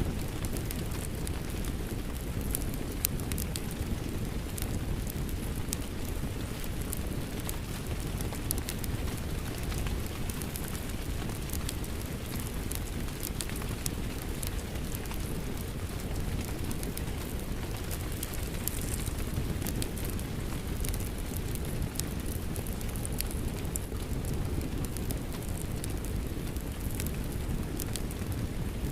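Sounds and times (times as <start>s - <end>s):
steady rain: 0.0s - 28.9s
wood fire crackling: 0.0s - 28.9s.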